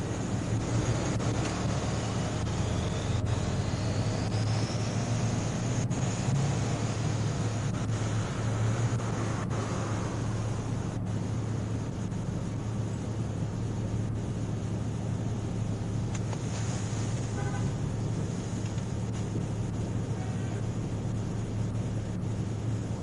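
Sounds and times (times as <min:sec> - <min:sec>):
idling vehicles and traffic rumble: 0:00.0 - 0:23.0.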